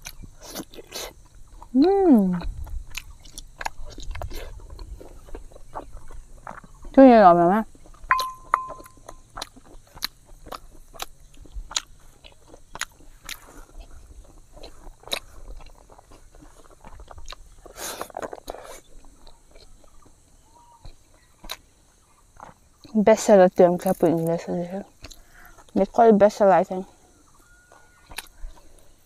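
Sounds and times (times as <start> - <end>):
chewing and crunching food: 0.0 - 29.0.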